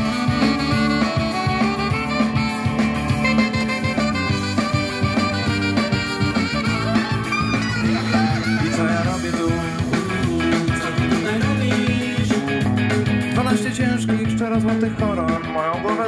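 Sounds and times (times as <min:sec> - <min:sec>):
pop song on radio boombox: 0:00.0 - 0:16.0.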